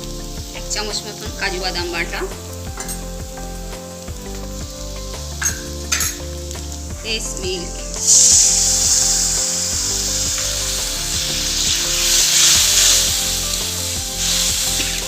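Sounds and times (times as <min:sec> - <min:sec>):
masala sizzling in hot oil: 0:00.0 - 0:15.0.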